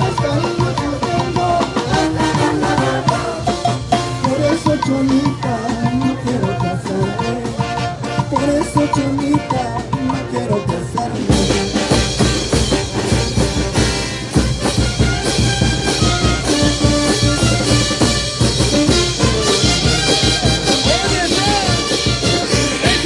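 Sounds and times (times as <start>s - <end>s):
bass drum and cymbals: 0.0s - 23.0s
brass band playing: 0.0s - 23.0s.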